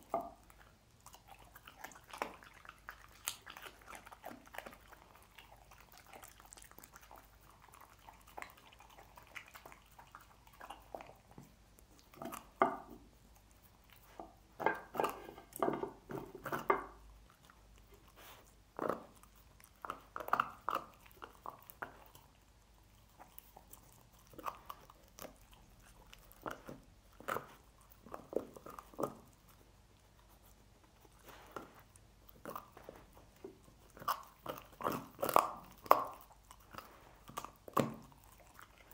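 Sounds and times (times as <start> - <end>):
dog chewing bones: 0.0 - 38.9.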